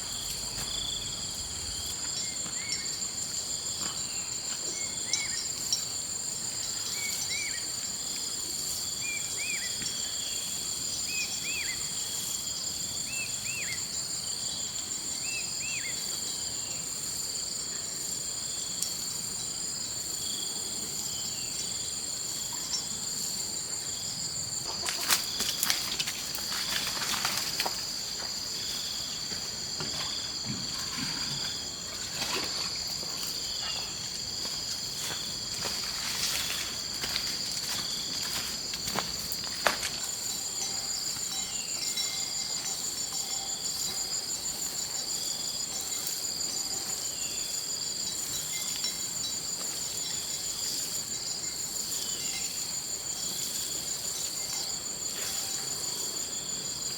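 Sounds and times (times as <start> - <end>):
high-pitched insect chorus: 0.0 - 56.9.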